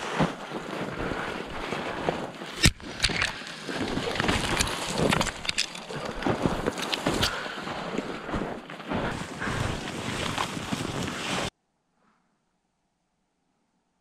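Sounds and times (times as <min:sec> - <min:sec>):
branches rustling against microphone: 0:00.0 - 0:11.5
crackles and snaps: 0:00.0 - 0:11.5.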